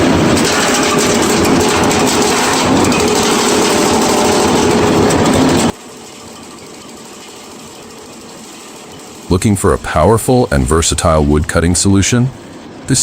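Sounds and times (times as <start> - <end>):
loud machinery running: 0.0 - 13.0.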